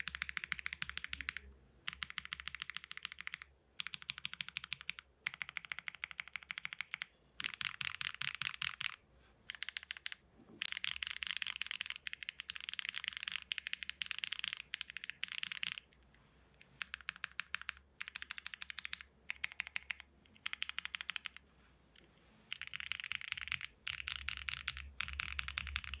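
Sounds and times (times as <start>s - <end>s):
fast typing on mechanical keyboard: 0.0s - 15.9s, 16.8s - 21.4s, 22.5s - 26.0s.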